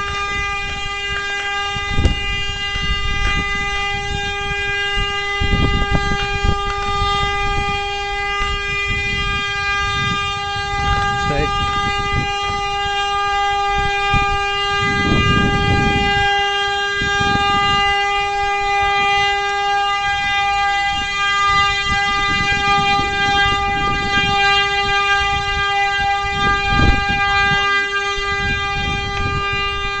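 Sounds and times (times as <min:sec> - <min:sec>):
vehicle horn sounding: 0:00.0 - 0:30.0.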